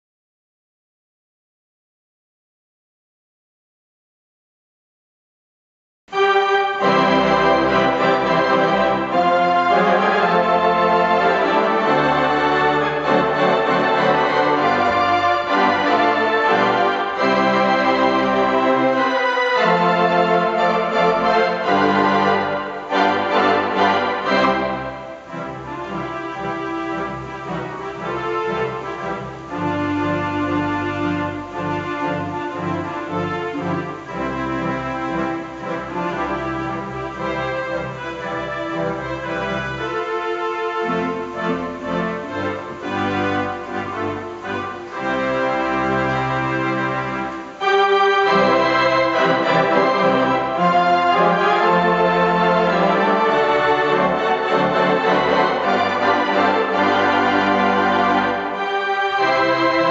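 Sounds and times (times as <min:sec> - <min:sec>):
theatre organ playing a tune: 0:06.1 - 0:59.9.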